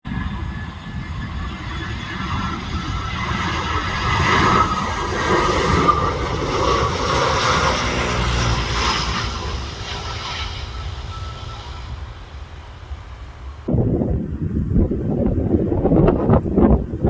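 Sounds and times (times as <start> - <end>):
jet airliner engine roar: 0.0 - 17.0.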